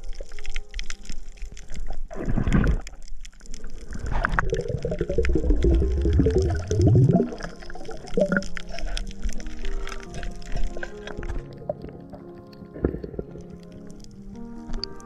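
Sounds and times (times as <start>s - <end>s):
water gurgling and sloshing: 0.0s - 15.0s.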